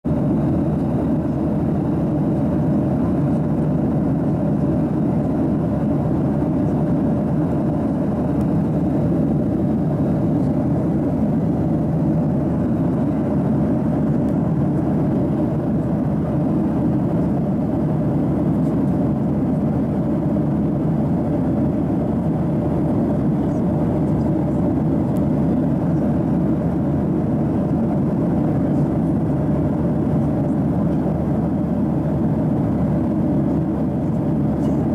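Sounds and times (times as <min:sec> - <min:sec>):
airplane cabin engine drone: 0:00.0 - 0:34.9.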